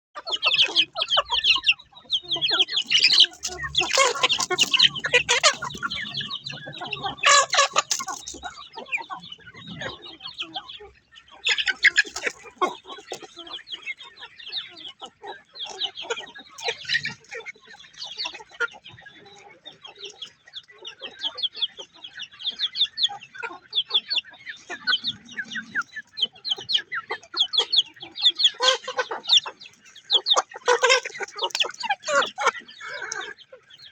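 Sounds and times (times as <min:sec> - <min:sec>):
chickens squawking: 0:00.2 - 0:33.9
chicks peeping: 0:00.2 - 0:33.9
hen clucking: 0:00.2 - 0:33.9.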